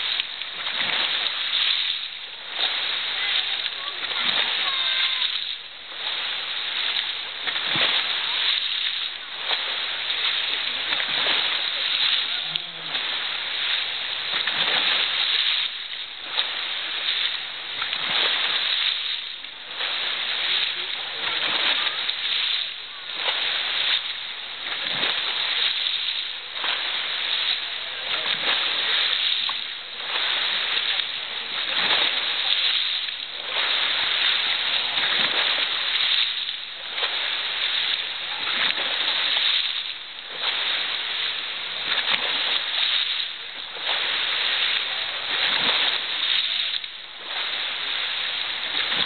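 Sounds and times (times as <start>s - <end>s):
churned water: 0.0s - 49.0s
splashes in a pool: 0.0s - 49.0s.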